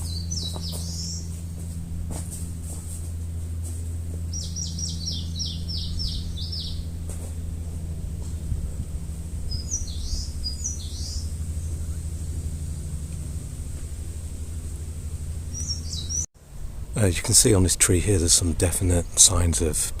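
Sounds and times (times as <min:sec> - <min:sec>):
songbird singing: 0:00.0 - 0:16.3
steady low rumble: 0:00.0 - 0:20.0.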